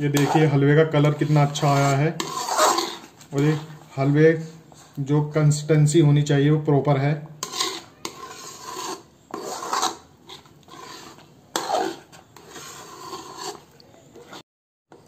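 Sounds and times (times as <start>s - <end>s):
metal ladle scraping a pan: 0.0s - 4.9s, 7.3s - 15.0s.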